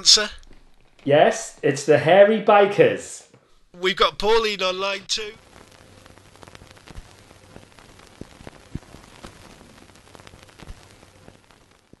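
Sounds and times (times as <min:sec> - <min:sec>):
static hiss with pops: 0:00.0 - 0:02.0, 0:03.3 - 0:12.0.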